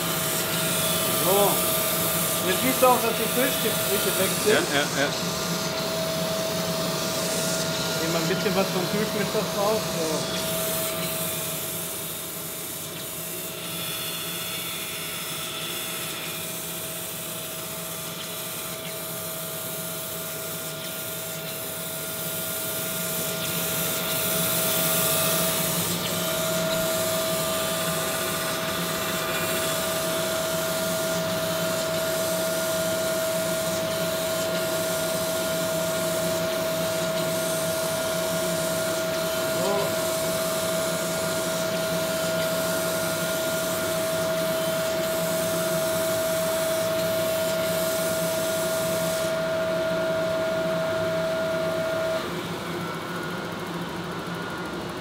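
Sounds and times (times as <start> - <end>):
coolant hiss: 0.0 - 49.8
grinding machine whine: 0.0 - 55.0.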